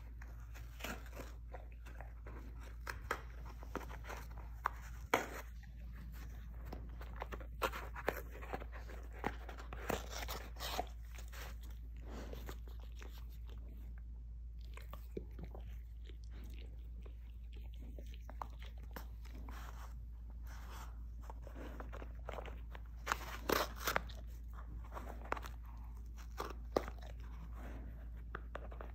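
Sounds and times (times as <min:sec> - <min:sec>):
dog chewing and tearing cardboard: 0:00.0 - 0:14.0, 0:14.6 - 0:28.9.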